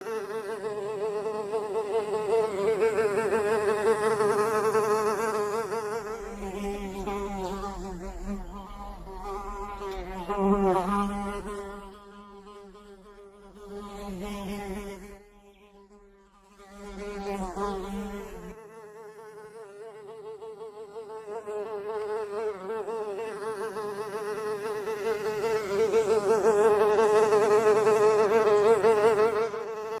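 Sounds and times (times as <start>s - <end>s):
fly buzzing: 0.0s - 30.0s.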